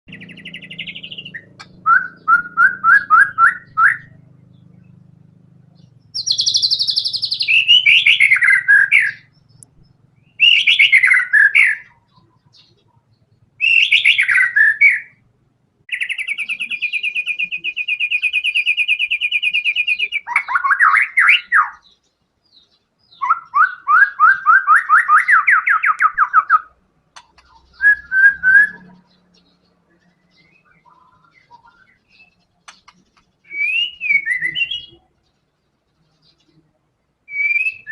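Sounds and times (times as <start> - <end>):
bird singing whistles and trills: 0.1 - 5.0, 5.7 - 12.9, 13.6 - 15.2, 15.9 - 26.8, 27.4 - 35.1, 37.2 - 37.9.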